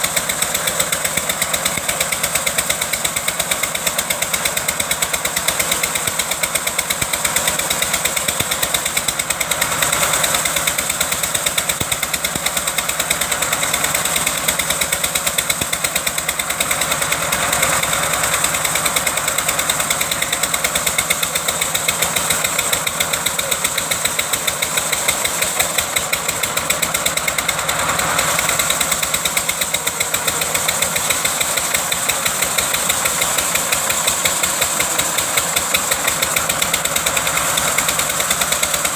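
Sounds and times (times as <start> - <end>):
wood-cutting machine engine knocking: 0.0 - 38.9.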